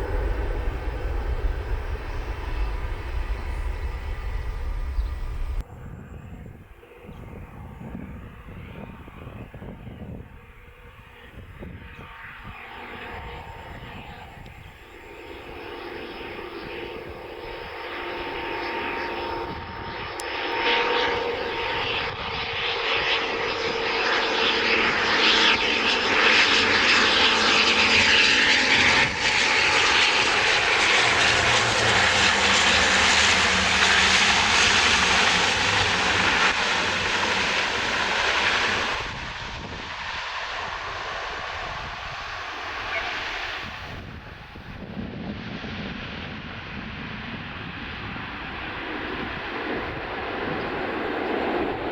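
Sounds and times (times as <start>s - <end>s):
high engine whine: 0.0s - 51.9s
jet engines roaring: 0.0s - 51.9s.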